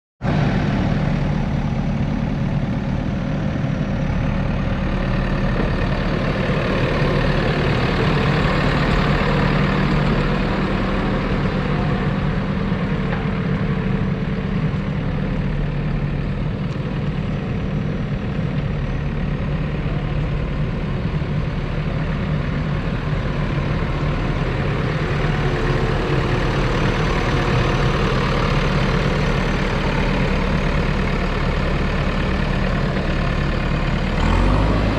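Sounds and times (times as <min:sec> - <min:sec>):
diesel engine idling: 0:00.3 - 0:34.9.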